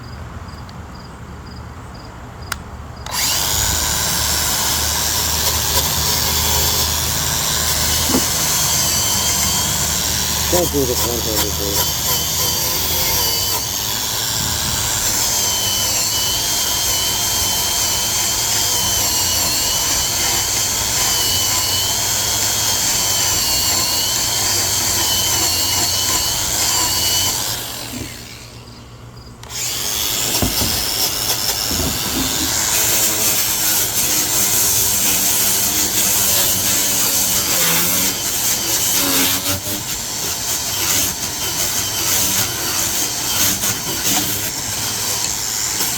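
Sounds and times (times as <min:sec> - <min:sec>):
wire wheel grinder brushing steel: 0:03.1 - 0:28.7, 0:29.4 - 0:45.9.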